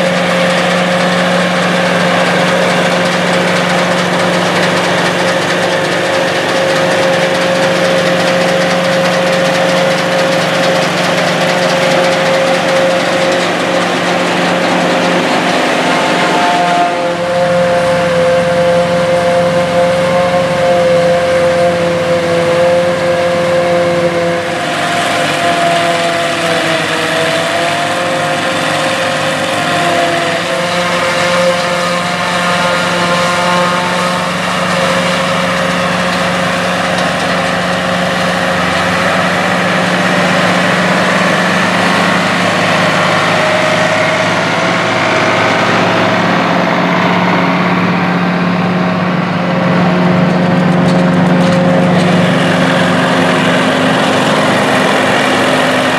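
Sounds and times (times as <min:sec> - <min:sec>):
farm machinery engines droning: 0:00.0 - 0:55.9.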